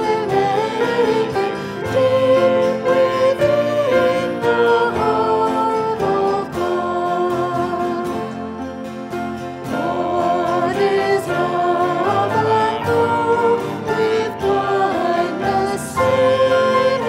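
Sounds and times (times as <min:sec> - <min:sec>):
instrumental accompaniment: 0:00.0 - 0:17.0
voices singing a hymn: 0:00.0 - 0:17.0.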